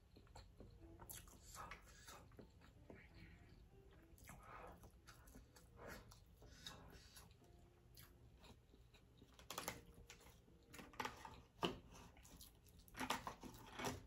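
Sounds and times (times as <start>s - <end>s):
person chewing noodles: 0.0s - 14.0s.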